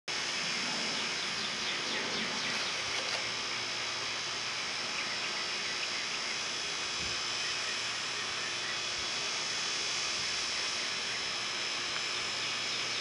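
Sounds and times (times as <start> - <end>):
high-pitched insect buzz: 0.1 - 13.0.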